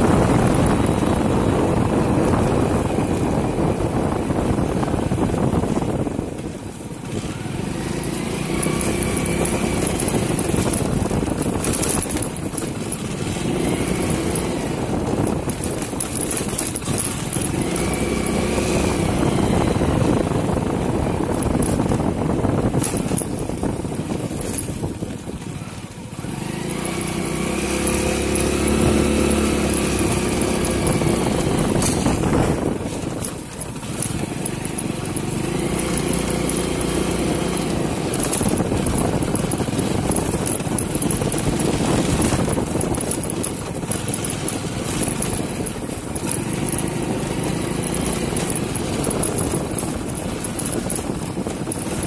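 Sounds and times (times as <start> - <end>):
motorcycle engine running: 0.0 - 52.0
wind on microphone: 0.0 - 52.0.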